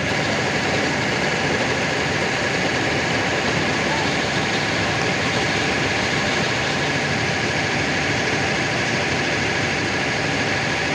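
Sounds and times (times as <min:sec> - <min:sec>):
vibratory hammer drone: 0:00.0 - 0:10.9.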